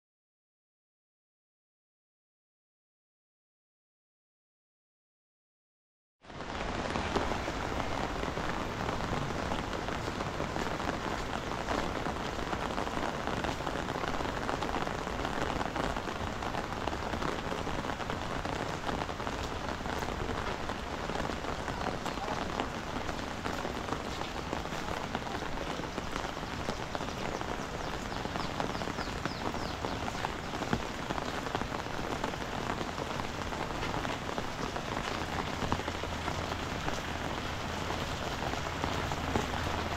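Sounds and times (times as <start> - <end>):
heavy rain pouring: 6.2 - 39.9.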